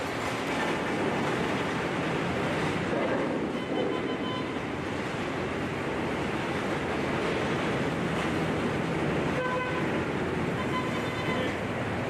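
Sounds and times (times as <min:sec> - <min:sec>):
rushing wind: 0:00.0 - 0:12.0
sea noise: 0:00.0 - 0:12.0.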